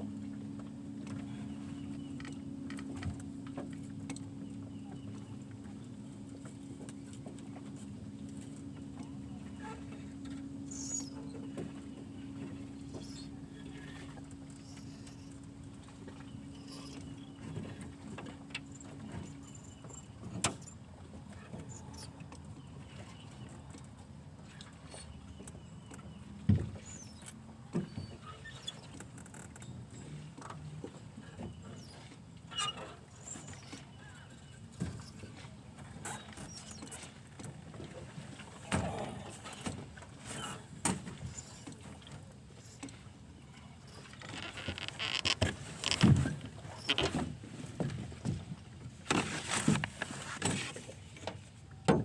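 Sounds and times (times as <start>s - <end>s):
faint motor hum: 0.0s - 52.0s.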